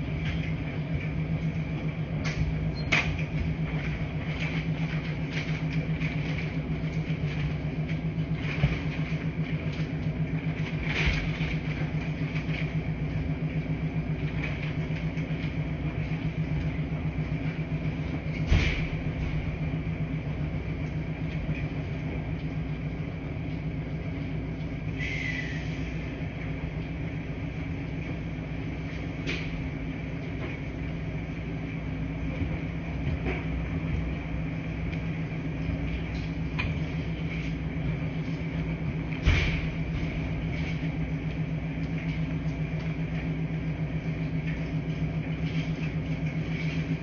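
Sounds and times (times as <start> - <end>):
laundry machine humming: 0.0 - 47.0.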